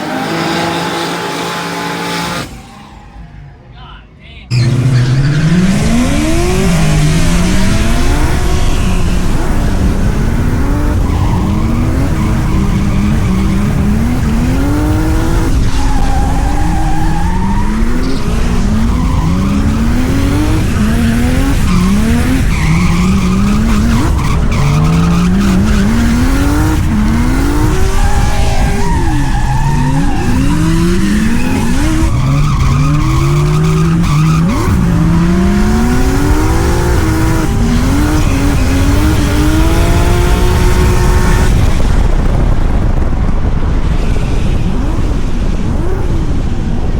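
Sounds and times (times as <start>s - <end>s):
car engine revving: 0.0s - 3.7s, 4.5s - 46.9s
tyres skidding and squealing: 0.0s - 46.9s.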